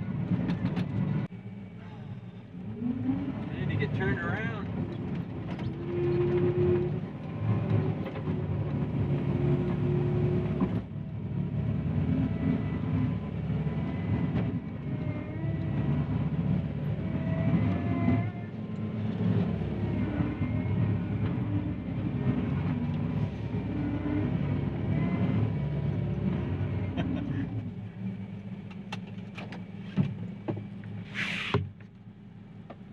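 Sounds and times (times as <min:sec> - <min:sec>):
diesel engine under load: 0:00.0 - 0:32.9.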